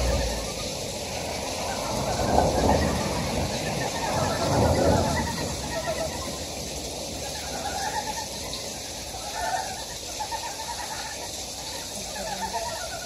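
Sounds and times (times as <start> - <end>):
frogs croaking in chorus: 0.0 - 13.0.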